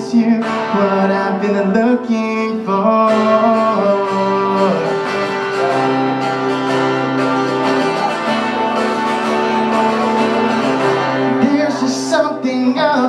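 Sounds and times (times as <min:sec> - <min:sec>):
acoustic guitar strumming: 0:00.0 - 0:13.0
person singing: 0:00.0 - 0:13.0.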